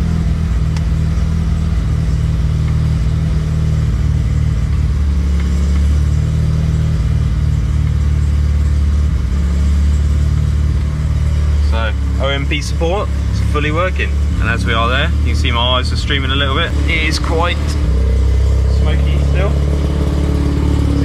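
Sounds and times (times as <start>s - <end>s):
rotary car engine idling: 0.0s - 21.0s.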